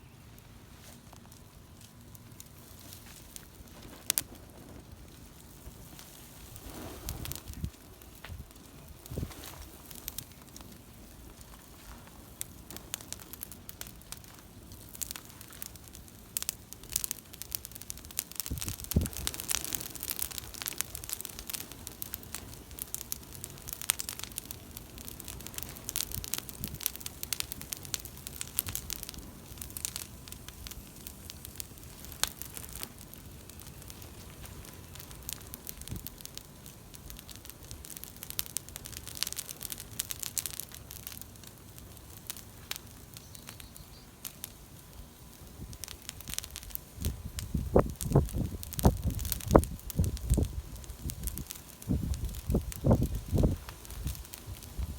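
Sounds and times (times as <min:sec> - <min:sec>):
bonfire crackling and popping: 0:00.0 - 0:54.9
low hiss of fire: 0:00.0 - 0:54.9.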